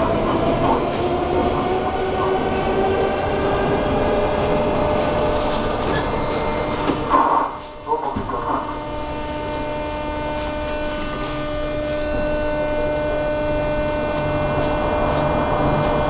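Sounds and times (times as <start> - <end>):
electrical hum in metro car: 0.0 - 16.0.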